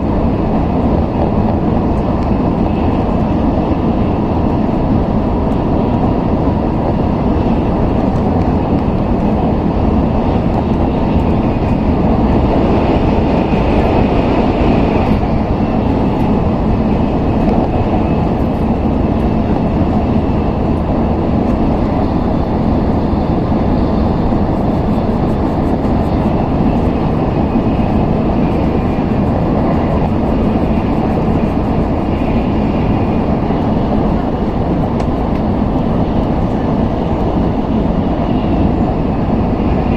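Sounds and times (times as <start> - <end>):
air rushing past carriage: 0.0 - 39.9
train wheels rumbling on rail: 0.0 - 39.9.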